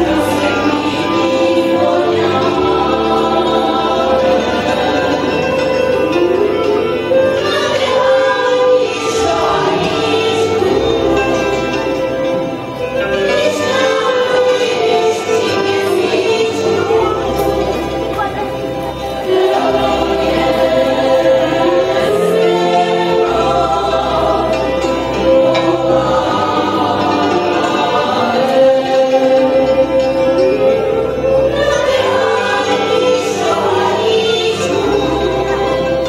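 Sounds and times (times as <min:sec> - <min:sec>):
women's choir singing folk song: 0:00.0 - 0:36.0.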